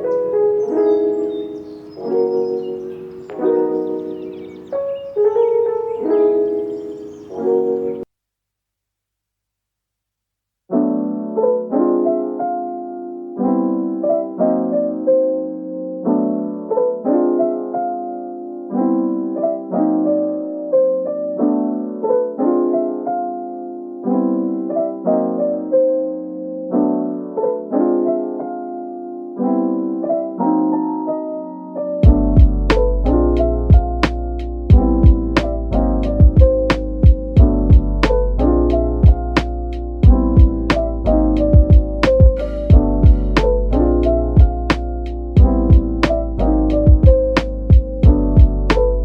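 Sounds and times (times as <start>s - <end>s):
gentle piano music: 0.0s - 8.1s, 10.7s - 49.0s.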